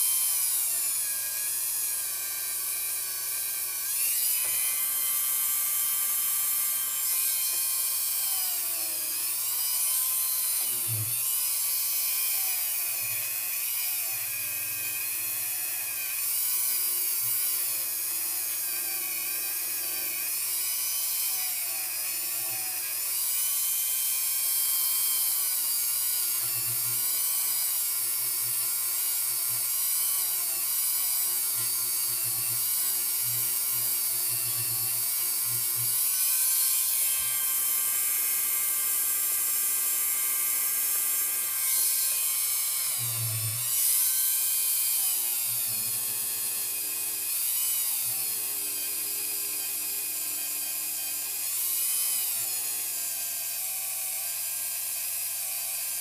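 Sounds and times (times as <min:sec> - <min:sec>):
rotary tool whining: 0:00.0 - 0:56.0.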